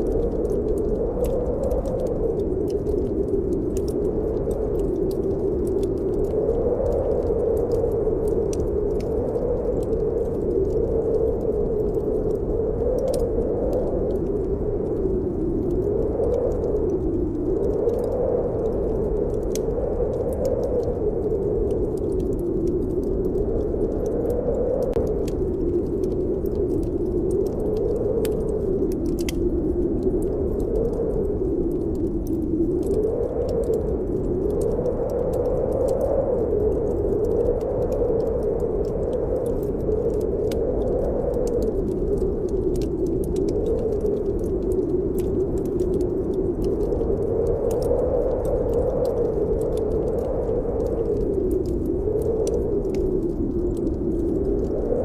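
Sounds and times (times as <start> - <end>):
wind howling: 0.0 - 55.0
wood fire crackling: 0.0 - 55.0.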